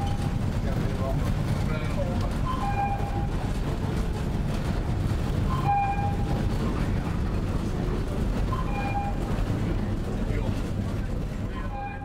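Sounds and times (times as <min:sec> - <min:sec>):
cable car rumbling on rails: 0:00.0 - 0:12.0.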